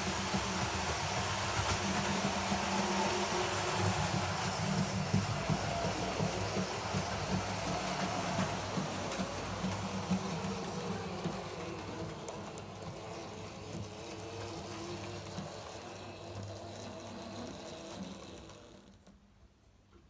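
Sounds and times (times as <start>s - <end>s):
wheels rumbling on track: 0.0s - 16.6s
model train motor buzzing: 0.0s - 19.1s.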